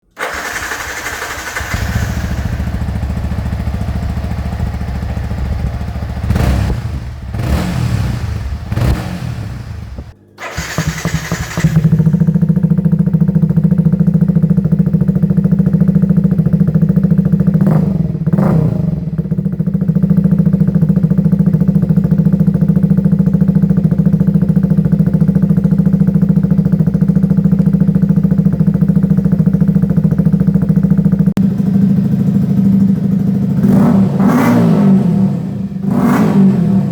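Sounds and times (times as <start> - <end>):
motorcycle engine idling with throttle blips: 0.1 - 36.9.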